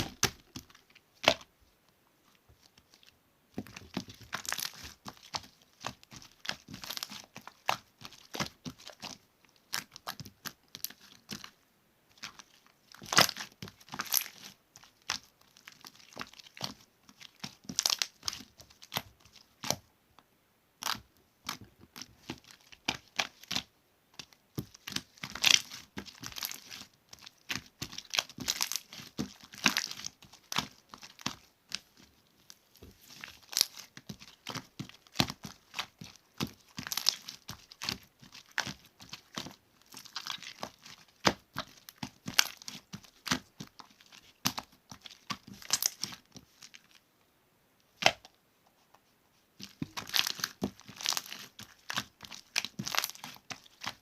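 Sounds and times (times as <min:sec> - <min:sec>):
slime crackling and popping: 0:00.0 - 0:01.5, 0:03.6 - 0:11.5, 0:12.2 - 0:19.8, 0:24.6 - 0:46.9, 0:49.7 - 0:54.0.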